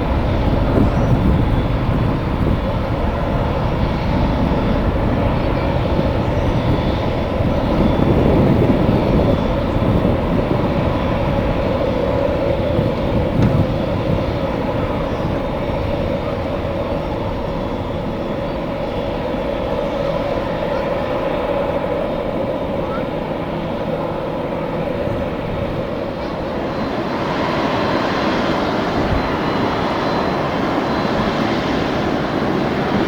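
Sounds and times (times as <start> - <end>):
airliner engines roaring: 0.0 - 33.0
engine whine: 0.0 - 33.0
wind rumbling on microphone: 0.0 - 33.0.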